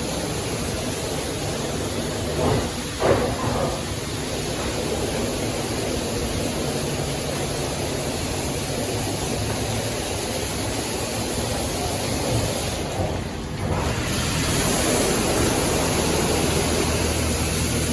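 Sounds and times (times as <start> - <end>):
high-pressure water spray: 0.0 - 17.9.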